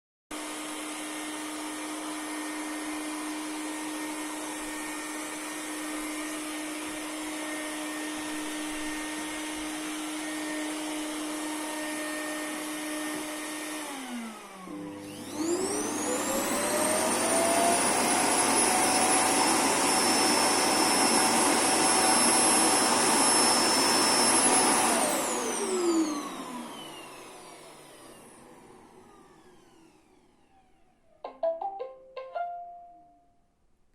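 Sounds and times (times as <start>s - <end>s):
robot vacuum motor hum: 3.0s - 30.8s.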